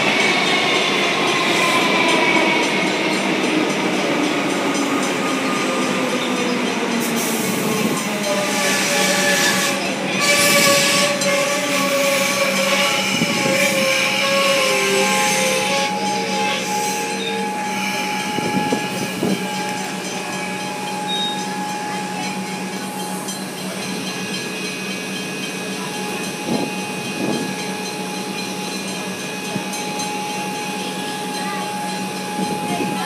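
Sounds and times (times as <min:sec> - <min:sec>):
electric train hum and hiss: 0:00.0 - 0:33.0.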